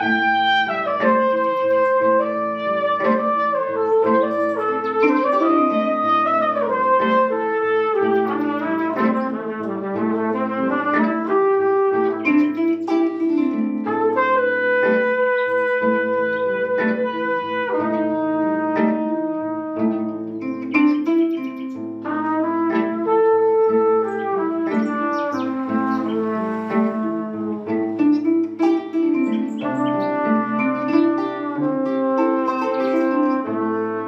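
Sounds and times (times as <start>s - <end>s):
plucked kora strings: 0.0s - 34.0s
trumpet melody: 0.0s - 34.0s.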